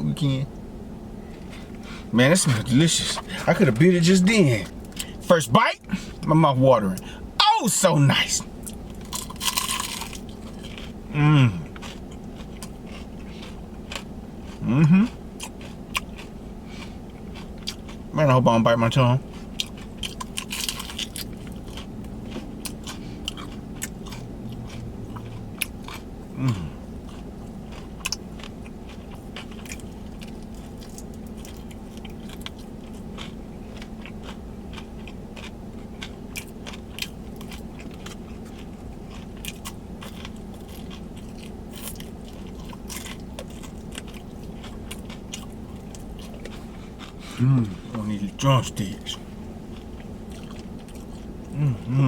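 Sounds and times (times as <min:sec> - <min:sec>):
steady low hum: 0:00.0 - 0:52.0
crunchy chewing: 0:08.4 - 0:52.0.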